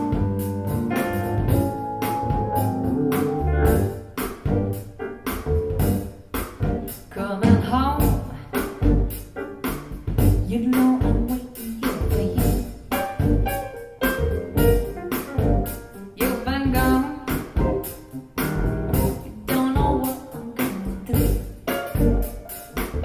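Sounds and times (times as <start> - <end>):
steady drum beat: 0.0 - 23.0.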